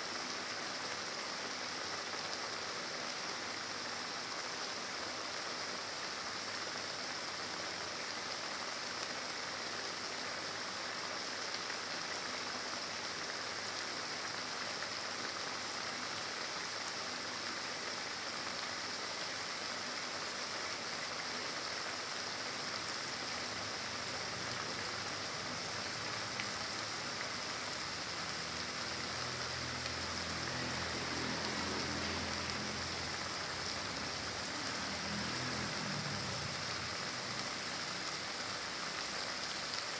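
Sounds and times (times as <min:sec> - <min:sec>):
chili paste sizzling in hot oil: 0:00.1 - 0:39.9.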